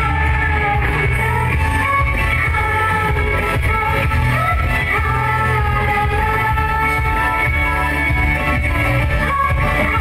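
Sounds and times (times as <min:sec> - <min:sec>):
pop song over sound system: 0:00.0 - 0:10.0
woman singing into microphone: 0:00.0 - 0:10.0.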